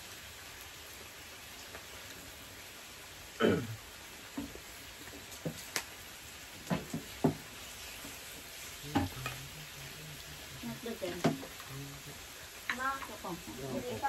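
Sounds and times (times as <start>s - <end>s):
meat sizzling on grill: 0.0s - 14.0s.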